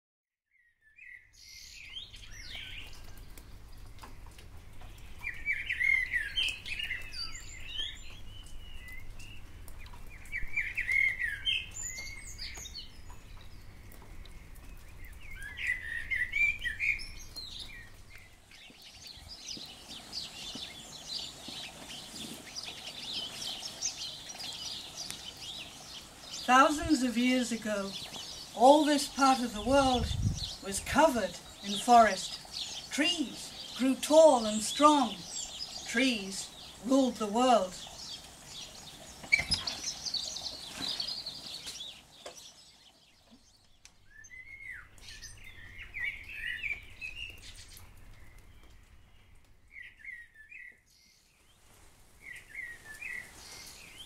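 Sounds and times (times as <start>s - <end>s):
songbirds chirping: 0.5s - 54.0s.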